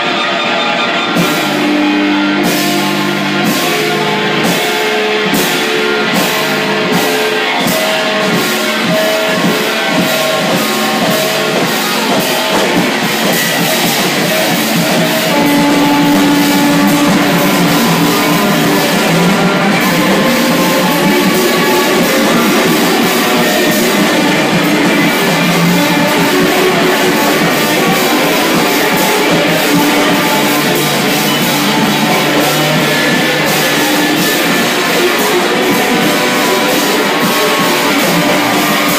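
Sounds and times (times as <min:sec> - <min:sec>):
drum kit: 0:00.0 - 0:38.9
electric guitars: 0:00.0 - 0:38.9
cymbal crashes: 0:01.1 - 0:38.9.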